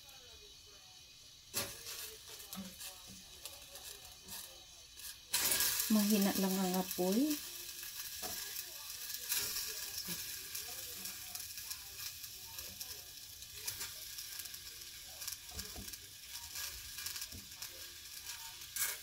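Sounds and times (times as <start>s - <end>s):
strawberries sizzling in saucepan: 0.0s - 19.0s.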